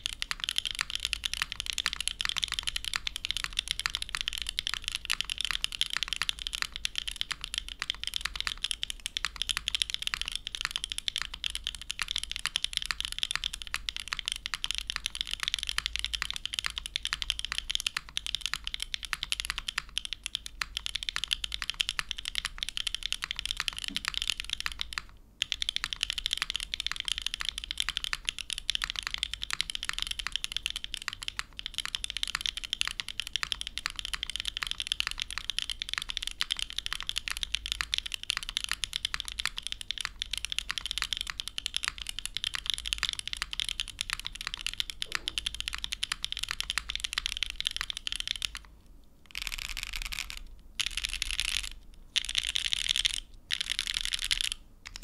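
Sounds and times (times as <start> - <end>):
fast mechanical keyboard typing: 0.0 - 48.7, 49.3 - 55.0.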